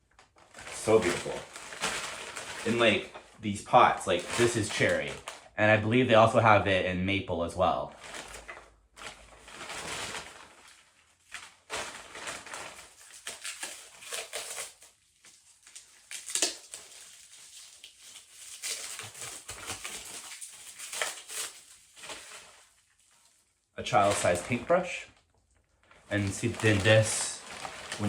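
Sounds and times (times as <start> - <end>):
packing material rustling: 0.0 - 5.5, 7.9 - 28.0.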